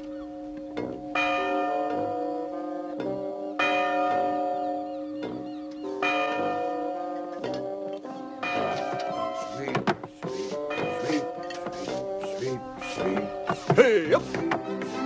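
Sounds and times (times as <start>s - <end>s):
bells chiming: 0.0s - 14.8s.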